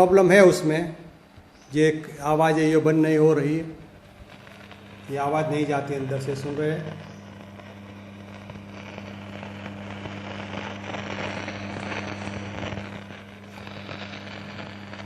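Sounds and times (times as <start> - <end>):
steady hum: 0.0 - 15.0
scratchy crackle from speaker: 1.4 - 15.0.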